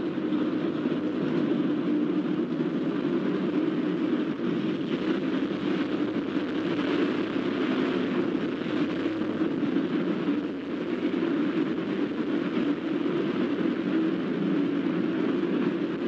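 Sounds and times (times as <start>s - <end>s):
loud engine running: 0.0s - 16.0s.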